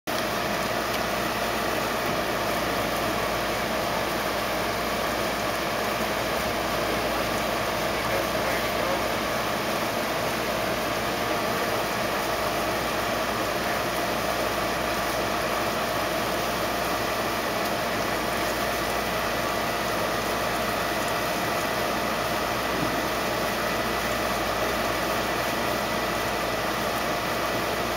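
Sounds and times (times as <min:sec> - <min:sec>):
steady mechanical hum: 0:00.1 - 0:27.9.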